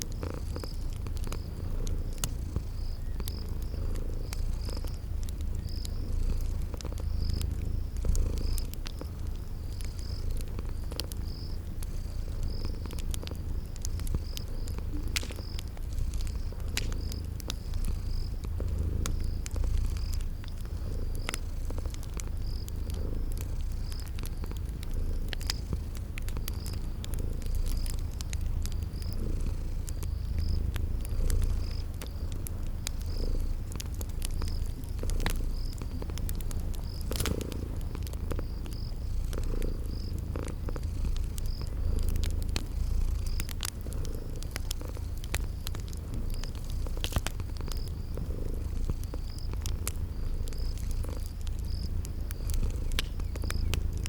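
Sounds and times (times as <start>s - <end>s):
cat purring: 0.0s - 54.0s
cricket chirping: 0.0s - 54.0s
wood fire crackling: 0.0s - 54.0s.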